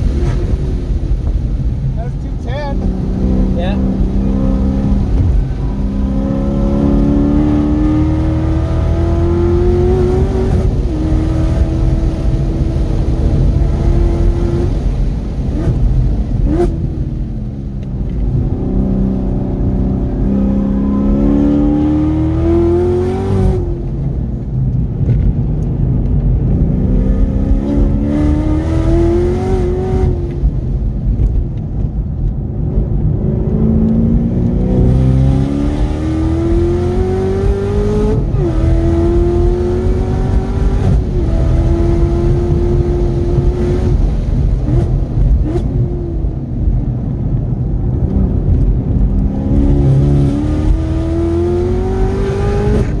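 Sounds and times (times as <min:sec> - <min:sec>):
car engine accelerating hard: 0:00.0 - 0:53.0
steady low rumble: 0:00.0 - 0:53.0.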